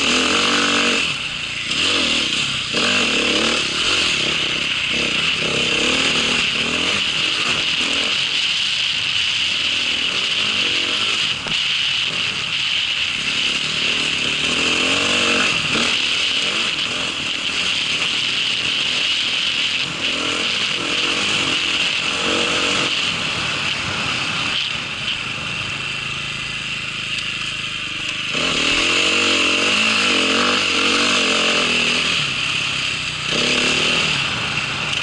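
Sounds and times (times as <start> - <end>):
small vehicle engine running: 0.0 - 35.0.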